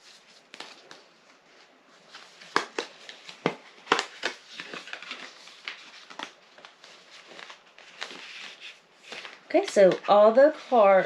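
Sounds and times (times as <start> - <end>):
packaging crinkling and crackling: 2.1 - 11.0.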